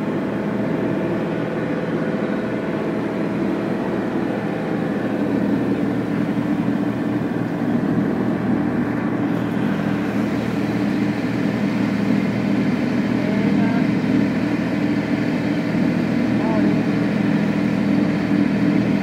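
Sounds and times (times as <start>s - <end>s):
motorboat engine drone: 0.0s - 19.0s.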